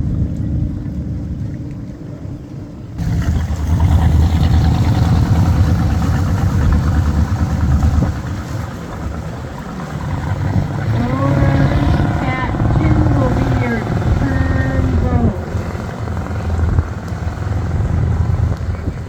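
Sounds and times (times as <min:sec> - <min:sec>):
motorboat engine running: 0:00.0 - 0:19.0
rush of water and air: 0:00.0 - 0:19.0.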